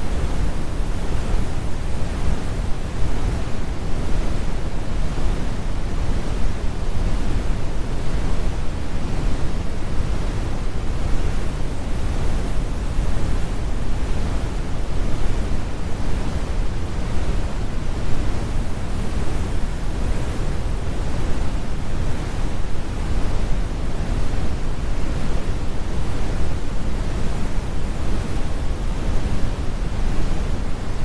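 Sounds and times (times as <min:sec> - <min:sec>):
brown noise rumble: 0:00.0 - 0:31.0.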